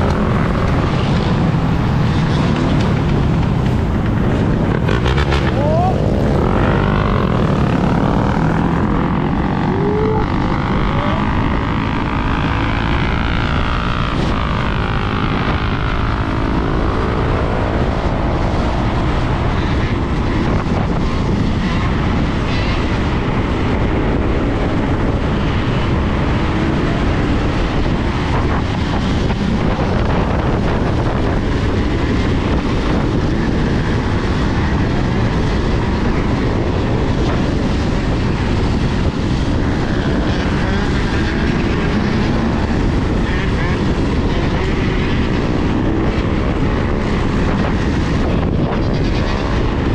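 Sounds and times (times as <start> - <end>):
road noise: 0.0 - 49.9
wind rushing on microphone: 0.0 - 49.9.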